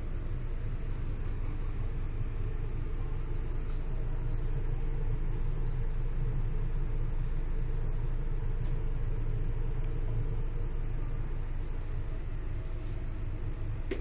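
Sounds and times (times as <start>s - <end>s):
low rumble of ship engines: 0.0s - 14.0s.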